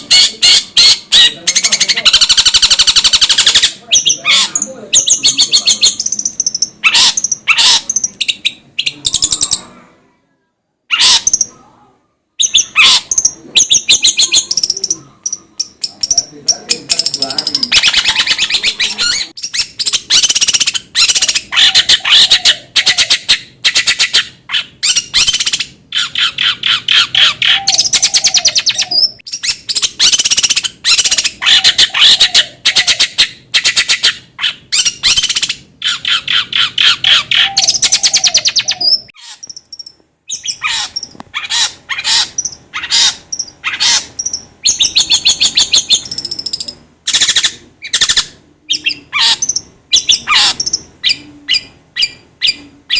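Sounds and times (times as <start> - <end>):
shrike chattering song: 0.0 - 9.8, 10.9 - 11.6, 12.4 - 52.9.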